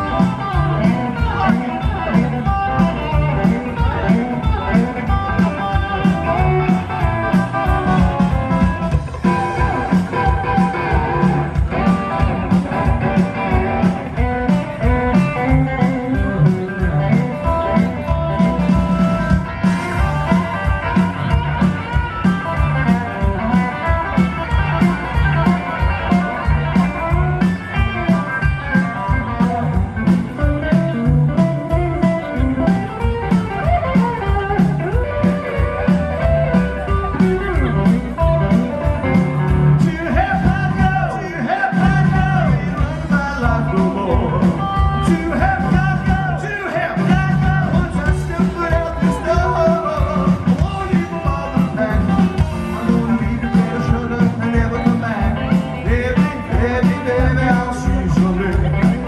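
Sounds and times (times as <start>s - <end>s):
electric guitar lead line: 0.0s - 59.0s
steady drum beat: 0.0s - 59.0s
upright bass: 0.0s - 59.0s.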